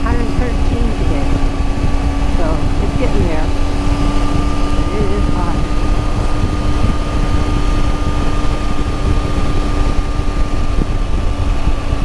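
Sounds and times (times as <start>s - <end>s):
motorcycle engine drone: 0.0s - 12.0s
wind rush over microphone: 0.0s - 12.0s.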